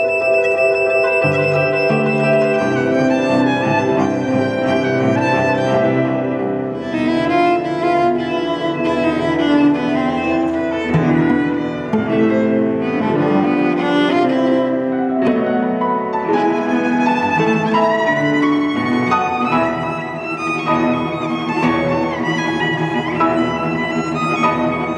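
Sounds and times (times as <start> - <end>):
violin cello and piano trio: 0.0 - 24.9.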